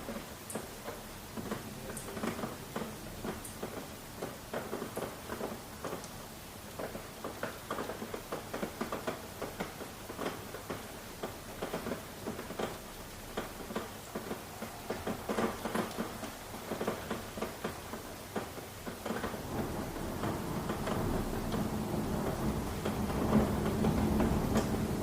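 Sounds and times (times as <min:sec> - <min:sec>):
rain pattering on a surface: 0:00.0 - 0:25.0
steady rain hiss: 0:00.0 - 0:25.0.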